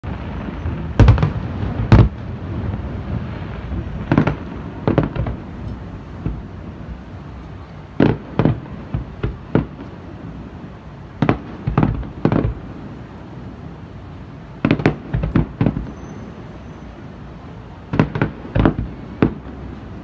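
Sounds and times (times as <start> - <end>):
background hiss: 0.0 - 20.0
fireworks bursting: 0.0 - 20.0.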